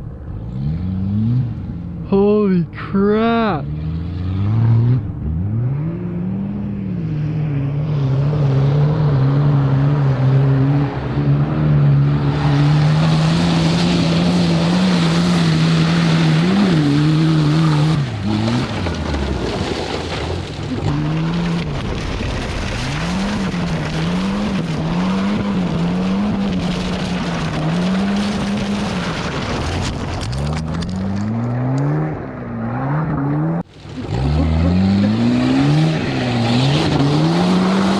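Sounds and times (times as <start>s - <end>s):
car engine revving: 3.3s - 21.8s, 22.9s - 37.9s.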